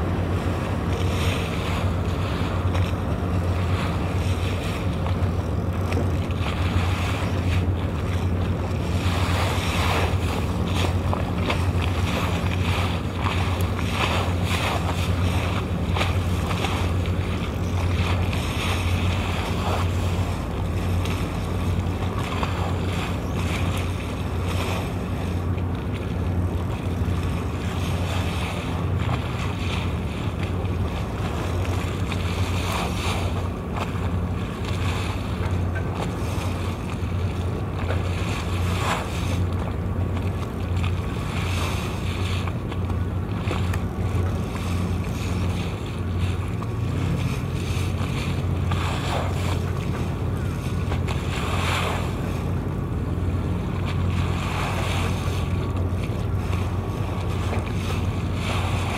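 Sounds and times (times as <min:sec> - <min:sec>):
boat engine droning: 0:00.0 - 0:58.9
water rushing: 0:00.0 - 0:58.9.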